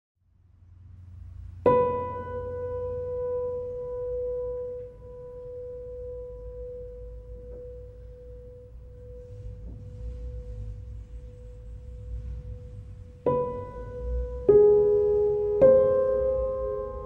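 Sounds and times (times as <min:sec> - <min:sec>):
low rumble: 0:00.2 - 0:17.0.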